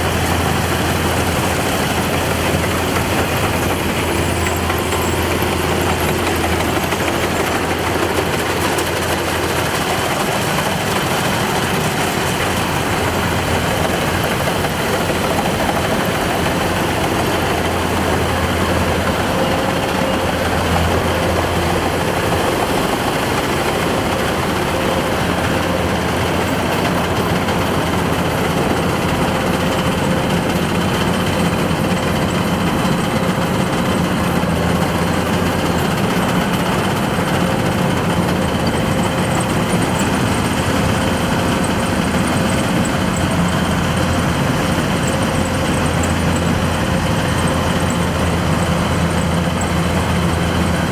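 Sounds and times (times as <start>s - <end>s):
combine harvester droning: 0.0s - 50.9s.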